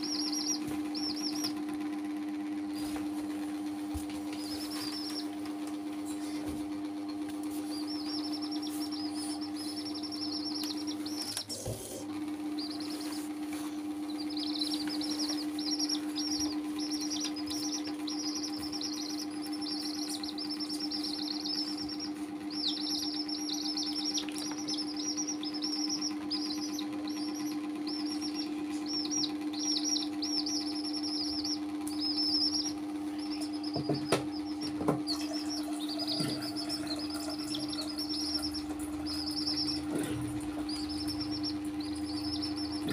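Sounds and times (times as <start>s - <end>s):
baby chicks peeping: 0.0s - 42.9s
steady low hum: 0.0s - 42.9s.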